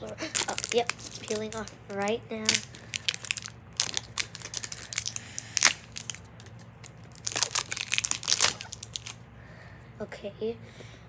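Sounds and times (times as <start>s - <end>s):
plastic wrapper crinkling: 0.0s - 9.2s.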